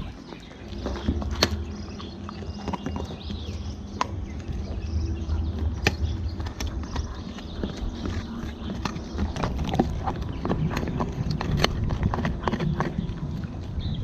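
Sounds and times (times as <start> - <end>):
dog gnawing a bone: 0.0 - 14.0.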